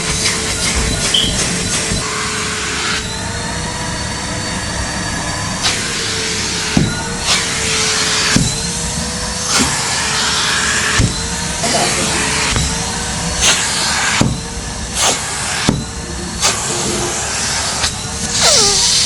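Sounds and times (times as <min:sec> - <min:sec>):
vacuum cleaner motor running: 0:00.0 - 0:19.0.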